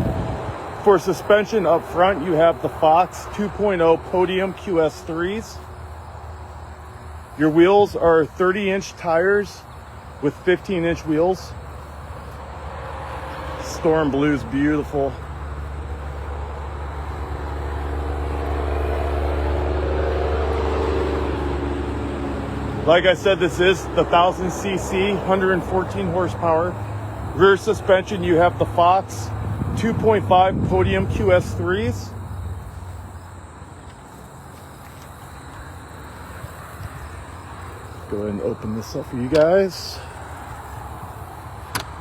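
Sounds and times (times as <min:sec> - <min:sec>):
vehicle engine passing: 0:00.0 - 0:42.0.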